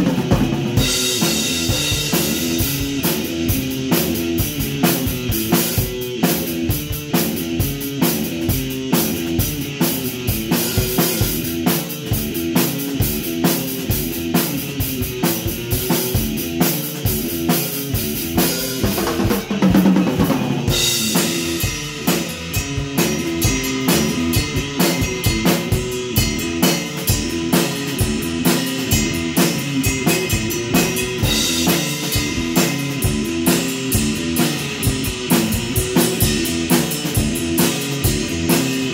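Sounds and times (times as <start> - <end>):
drum kit beat: 0.0 - 38.9
electric guitar rock riff: 0.0 - 38.9.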